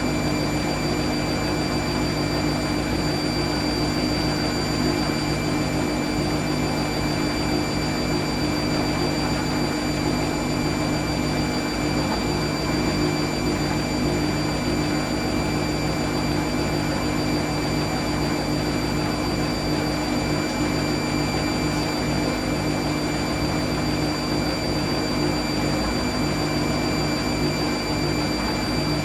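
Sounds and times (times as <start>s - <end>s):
washing machine spinning: 0.0s - 29.0s.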